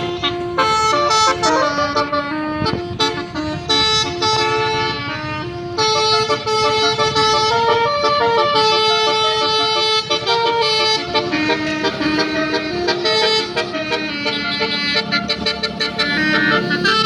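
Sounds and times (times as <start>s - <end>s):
bus musical horn playing a tune: 0.0s - 17.0s
low engine rumble: 0.0s - 17.0s.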